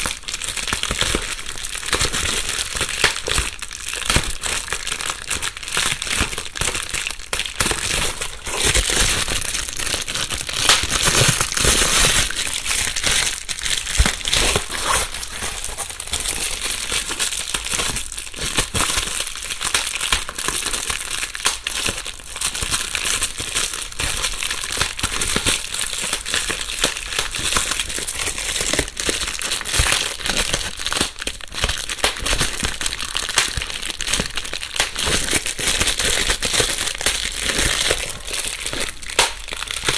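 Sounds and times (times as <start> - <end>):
bubble wrap crinkling and popping: 0.0 - 39.9.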